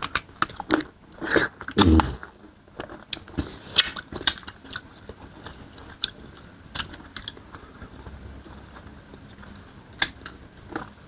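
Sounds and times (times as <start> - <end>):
chewing and biting: 0.0 - 11.0.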